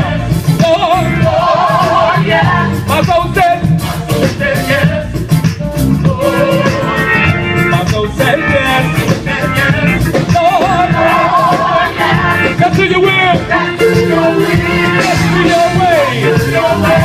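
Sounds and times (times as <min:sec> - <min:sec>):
gospel band playing: 0:00.0 - 0:17.0
guitar: 0:00.0 - 0:17.0
singers singing: 0:00.0 - 0:17.0.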